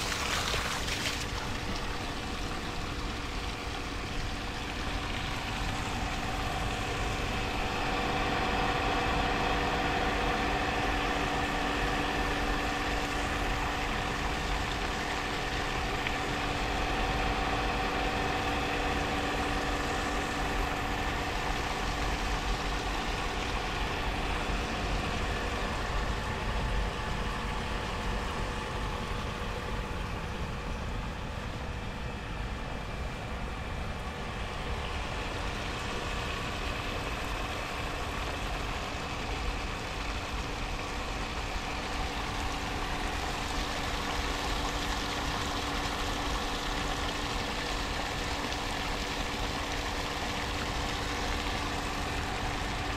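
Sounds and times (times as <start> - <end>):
machine humming with steady tones: 0.0 - 52.9.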